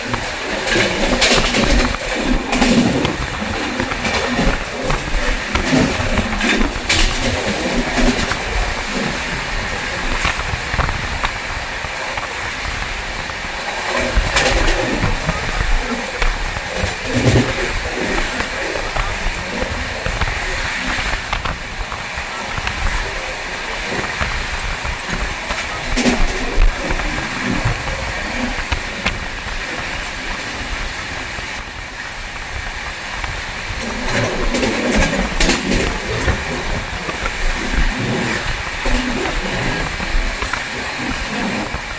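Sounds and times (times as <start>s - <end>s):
train rumbling and rattling: 0.0s - 41.9s.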